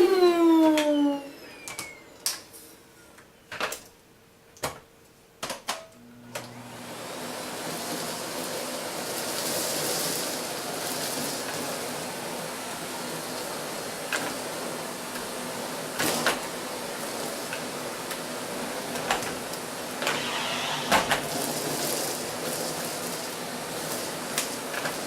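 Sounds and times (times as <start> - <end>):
vacuum cleaner motor running: 0.0 - 2.2, 6.0 - 25.0.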